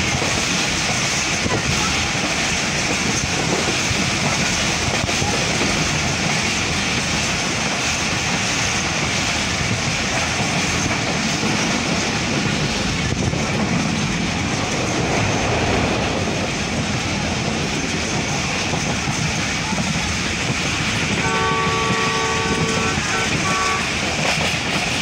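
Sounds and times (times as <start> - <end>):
train wheels on track: 0.0 - 25.0.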